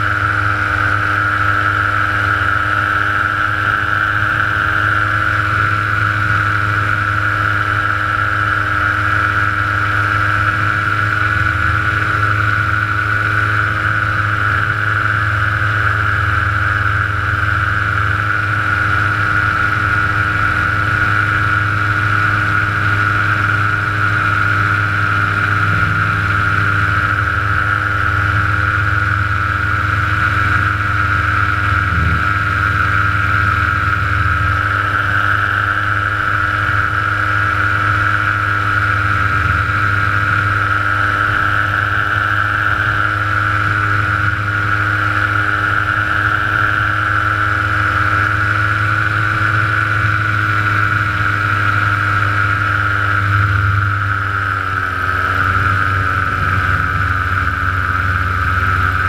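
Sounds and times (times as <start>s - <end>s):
small aircraft engine droning: 0.0s - 59.0s.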